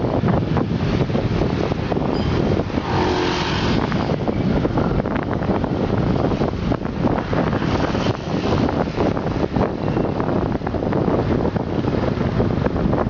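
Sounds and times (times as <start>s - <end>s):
road traffic rumble: 0.0s - 13.0s
wind buffeting microphone: 0.0s - 13.0s.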